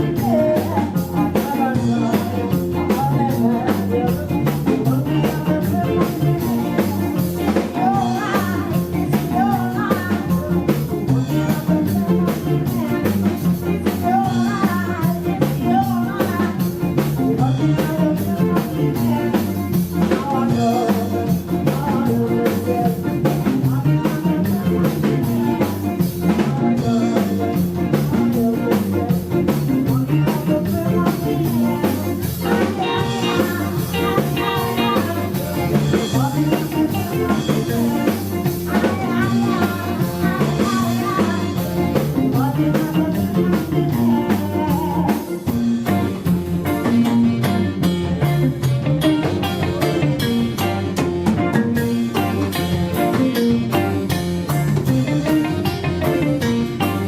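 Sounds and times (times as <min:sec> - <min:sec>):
band playing upbeat song: 0:00.0 - 0:57.0
person singing: 0:00.0 - 0:57.0.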